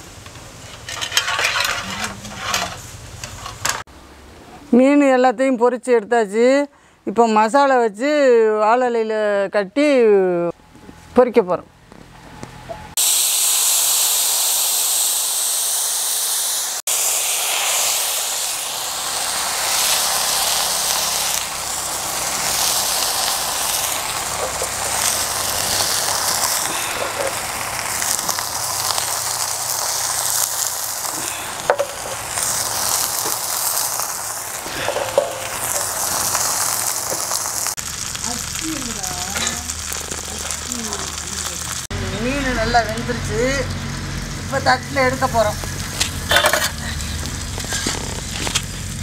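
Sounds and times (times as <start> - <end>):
fish sizzling on griddle: 0.0 - 3.9, 13.0 - 49.0.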